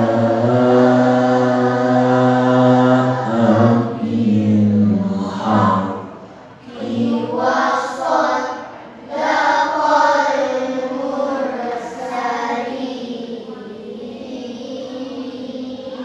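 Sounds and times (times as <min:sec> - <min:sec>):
group chanting recitation: 0:00.0 - 0:16.0.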